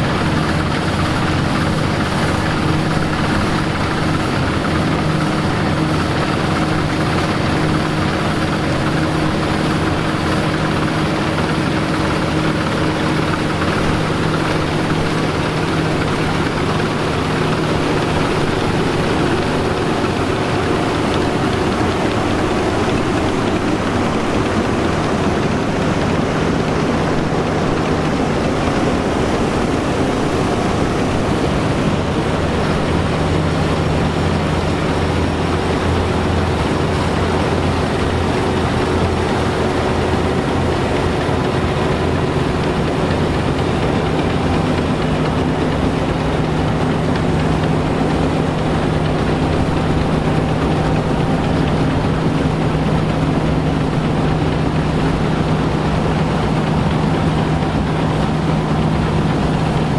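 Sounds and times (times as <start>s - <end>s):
farm machinery engines running: 0.0s - 59.9s.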